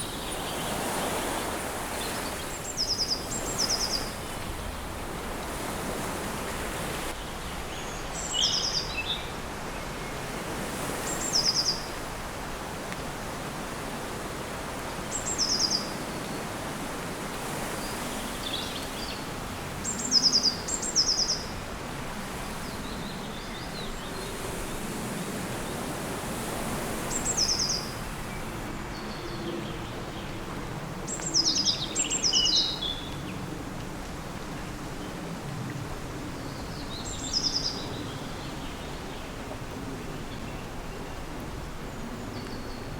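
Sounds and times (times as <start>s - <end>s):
outdoor background hiss: 0.0s - 42.9s.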